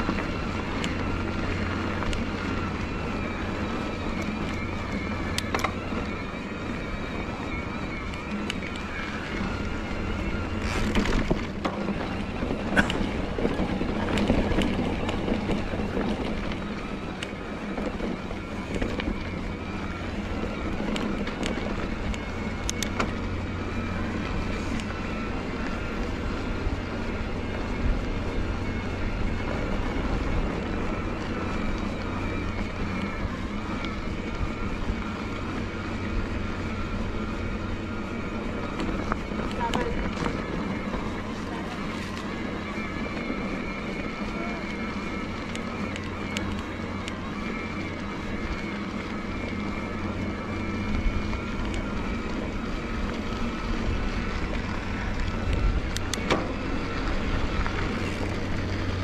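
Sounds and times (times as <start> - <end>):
electric bike motor whining: 0.0 - 59.0.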